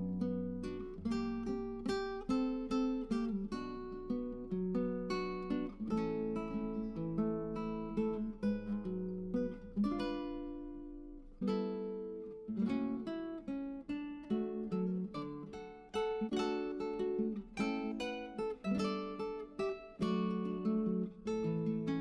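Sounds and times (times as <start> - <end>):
acoustic guitar picked melody: 0.0 - 22.0.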